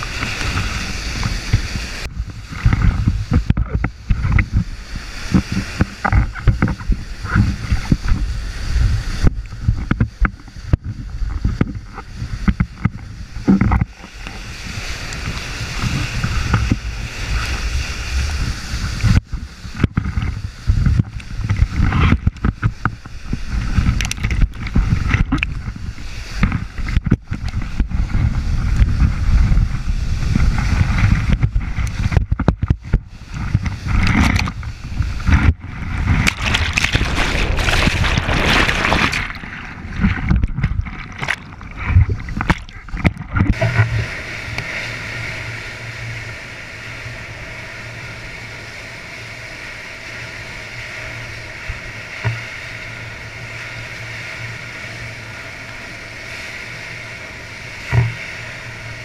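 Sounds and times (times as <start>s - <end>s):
water buffeting microphone: 0.0s - 59.0s
whitewater rushing and splashing: 0.0s - 59.0s.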